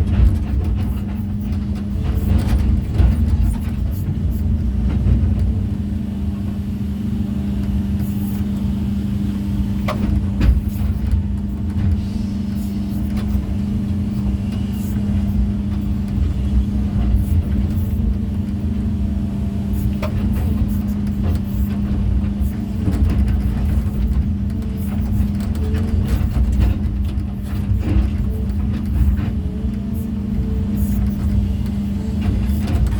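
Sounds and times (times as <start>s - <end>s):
heavy machinery engine running: 0.0s - 32.9s.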